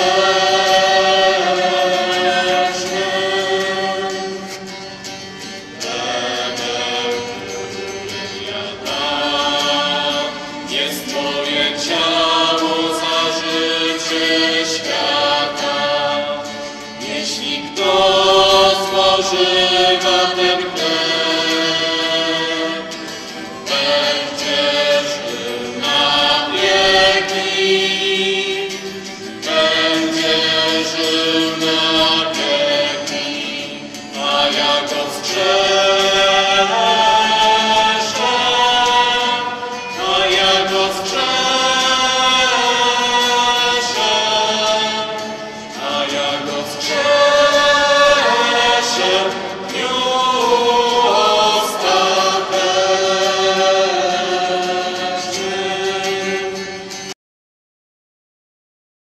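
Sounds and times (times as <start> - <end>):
choir singing a slow hymn: 0.0 - 57.2.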